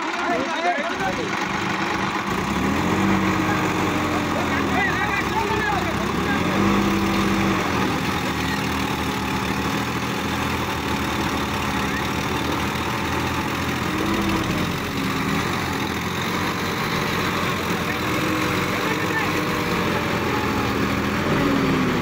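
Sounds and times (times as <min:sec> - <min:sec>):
diesel tractor engines running: 0:00.0 - 0:22.0.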